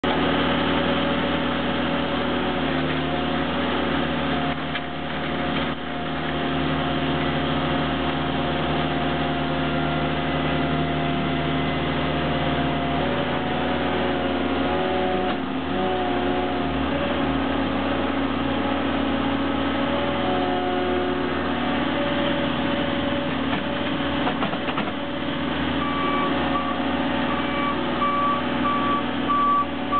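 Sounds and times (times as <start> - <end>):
loader engine under load: 0.0 - 29.9.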